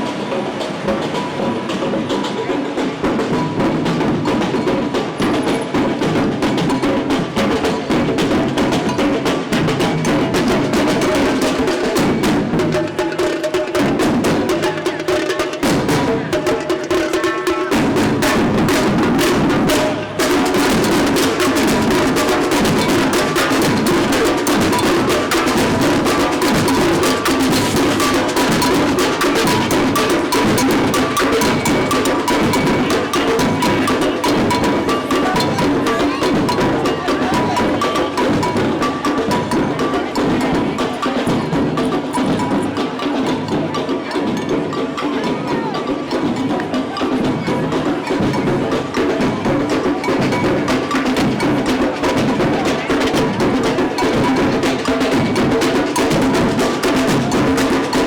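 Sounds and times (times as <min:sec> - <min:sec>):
percussion band drumming: 0:00.0 - 0:58.0.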